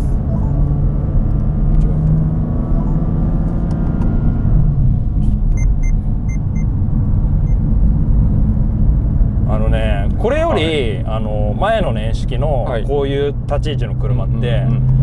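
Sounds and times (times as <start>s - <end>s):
car engine droning: 0.0s - 15.0s
road rumble: 0.0s - 15.0s.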